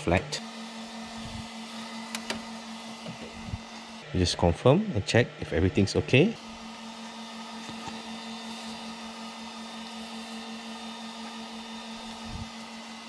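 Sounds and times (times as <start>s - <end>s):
printer fans humming: 0.0s - 13.0s.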